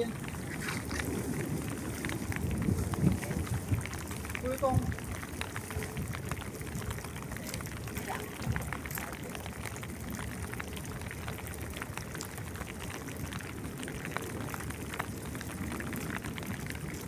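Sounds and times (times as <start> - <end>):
sea water splashing and lapping: 0.0 - 17.0.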